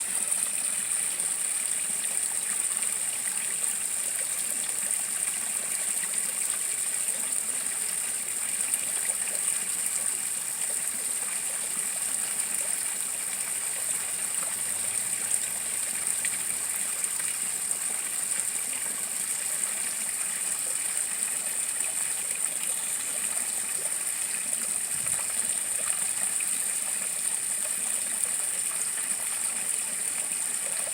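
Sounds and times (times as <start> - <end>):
waterfall splashing into pond: 0.0 - 30.9.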